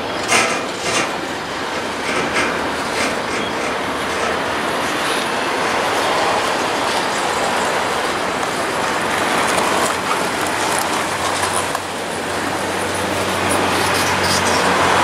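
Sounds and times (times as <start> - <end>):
high-pitched wheel squeaks: 0.0 - 7.9, 9.5 - 15.0
train wheels rushing on rail: 0.0 - 15.0.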